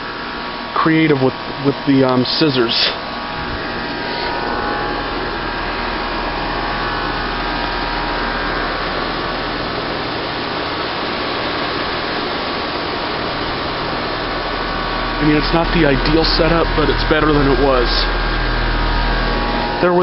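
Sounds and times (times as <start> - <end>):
compressor humming: 0.0 - 20.0
condenser fan air rushing: 0.0 - 20.0.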